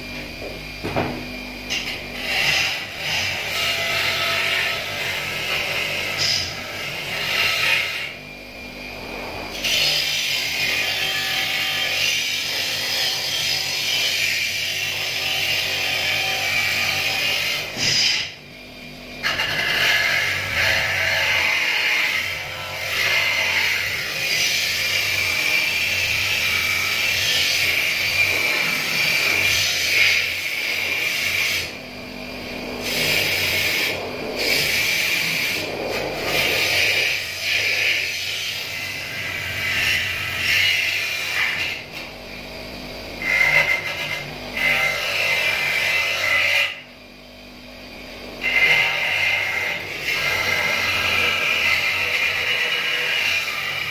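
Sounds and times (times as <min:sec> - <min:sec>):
bench grinder grinding metal: 0:00.0 - 0:18.5, 0:19.1 - 0:46.9, 0:47.9 - 0:53.9.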